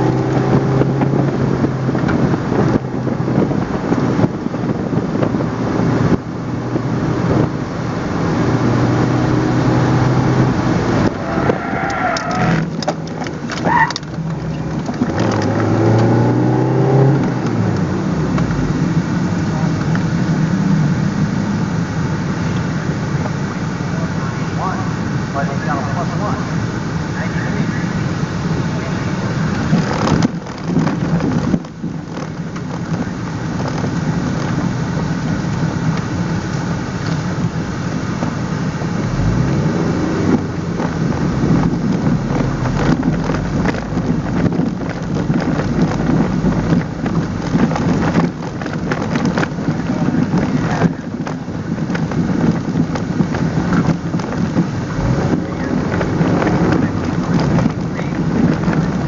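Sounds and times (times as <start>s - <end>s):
car engine drone in cabin: 0.0s - 59.0s
rough rumbling road noise: 0.0s - 59.0s.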